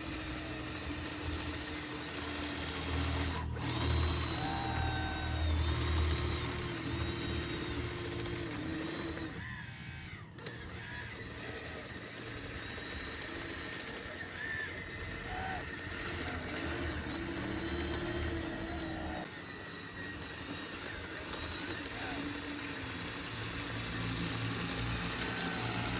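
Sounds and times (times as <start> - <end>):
small electric motors whining: 0.0 - 25.9.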